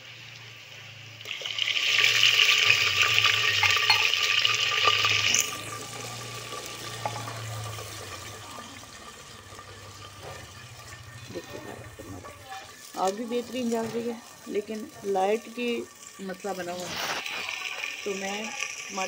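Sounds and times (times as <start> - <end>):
water hissing in hot oil: 0.0 - 19.0.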